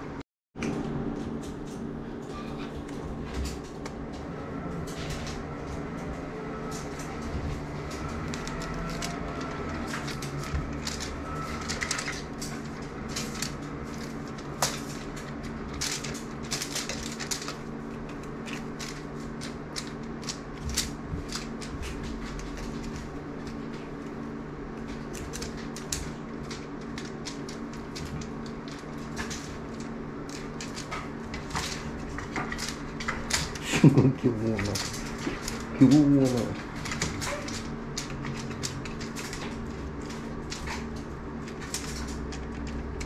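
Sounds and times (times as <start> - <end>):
steady low hum: 0.0 - 43.0
cat toy clicking and rustling: 4.8 - 24.2, 24.8 - 43.0.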